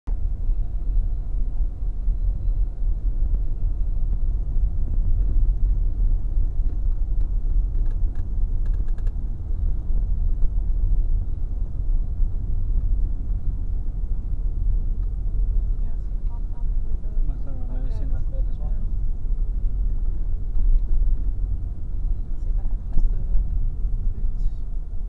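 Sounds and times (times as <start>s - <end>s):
car road noise rumble: 0.1s - 25.0s.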